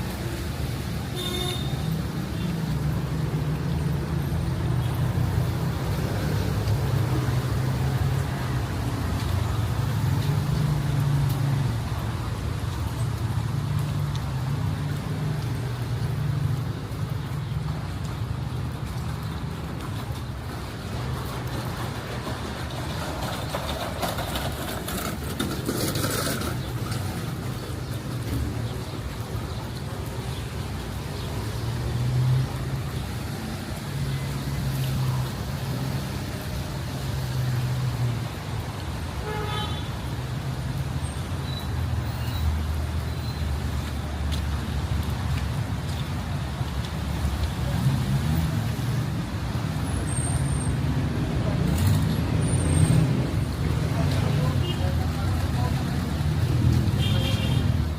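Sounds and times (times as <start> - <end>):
vehicles passing on wet road: 0.0 - 57.9.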